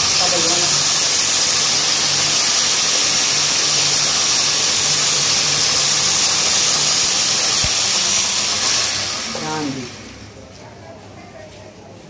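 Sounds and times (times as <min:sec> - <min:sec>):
winding machine whirring: 0:00.0 - 0:10.2.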